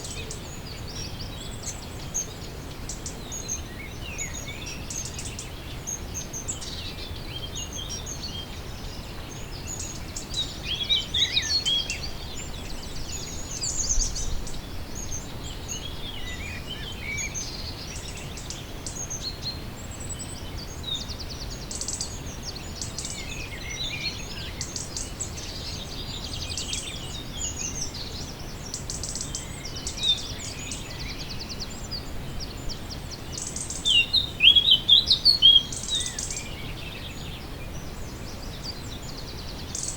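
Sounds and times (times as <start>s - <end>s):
low background hiss and rumble: 0.0s - 39.9s
songbirds singing and chirping: 0.0s - 39.9s.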